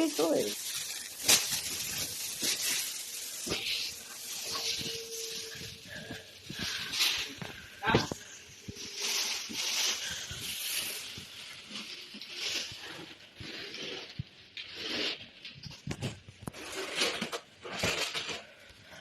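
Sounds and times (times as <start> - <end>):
packaging rustling and scraping: 0.0 - 19.0.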